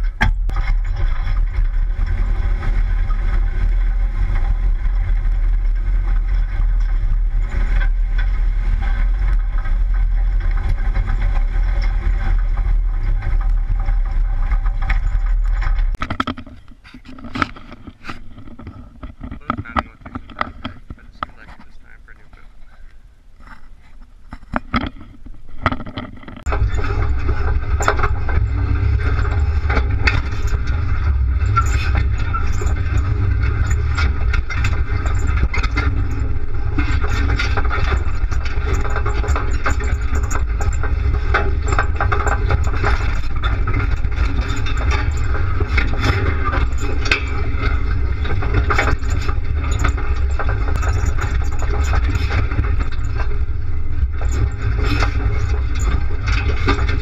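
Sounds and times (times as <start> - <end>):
engine and drivetrain drone: 0.0 - 16.2, 19.3 - 23.1, 25.9 - 57.0
body and mount rattling: 4.2 - 21.7, 23.4 - 57.0.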